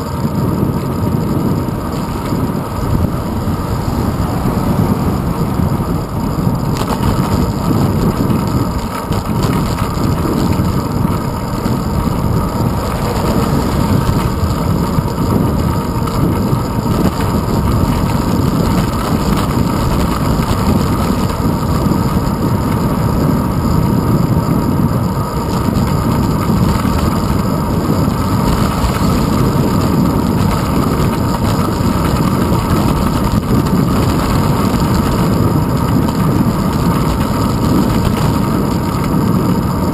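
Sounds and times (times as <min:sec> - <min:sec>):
road vibration: 0:00.0 - 0:39.9
wind buffeting: 0:00.0 - 0:39.9.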